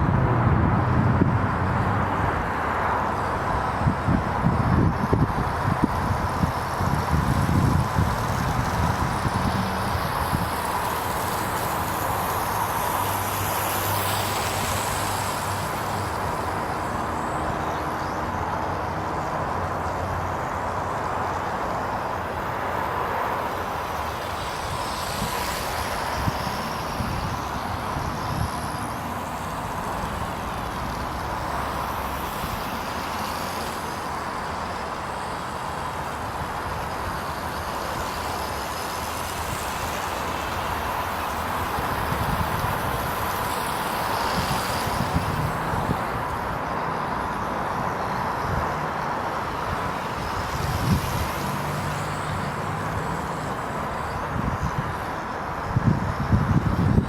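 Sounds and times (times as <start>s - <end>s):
drone propellers buzzing: 0.0s - 57.0s
wind rumbling on microphone: 0.0s - 57.0s.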